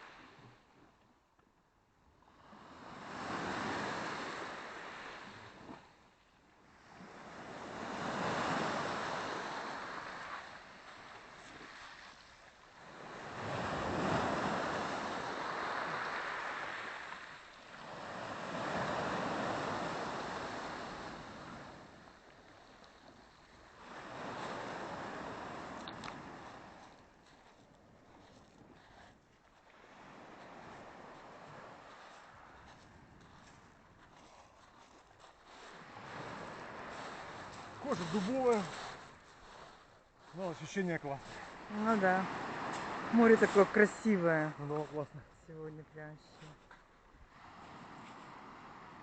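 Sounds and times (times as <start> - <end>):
small waves breaking on shore: 0.0 - 1.0, 2.1 - 49.0.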